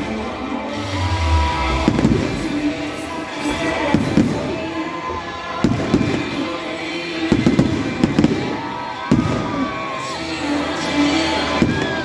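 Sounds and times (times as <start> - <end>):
music playing: 0.0 - 12.0
fireworks bangs and crackles: 1.5 - 10.6, 11.3 - 12.0.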